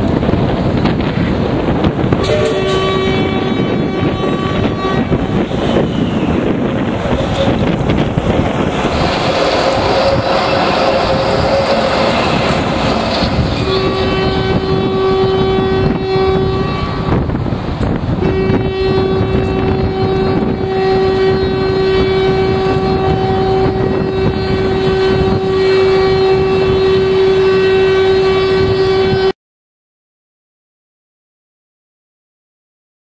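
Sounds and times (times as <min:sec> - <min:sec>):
tram whining and rumbling: 0:00.0 - 0:29.3.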